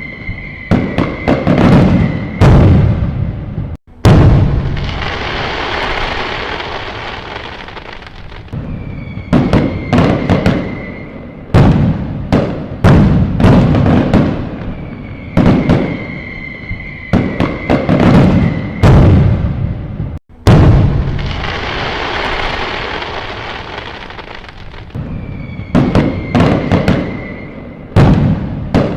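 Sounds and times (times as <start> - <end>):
high firework whistle: 0.0 - 3.3, 4.1 - 12.0, 12.7 - 19.7, 20.8 - 28.9
fireworks bangs: 0.0 - 28.9
fireworks crackling: 0.0 - 28.9.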